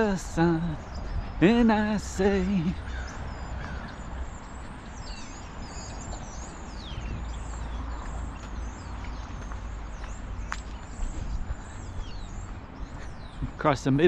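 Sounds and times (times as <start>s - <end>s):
footsteps on pavement: 0.0s - 14.0s
small birds chirping: 0.0s - 14.0s.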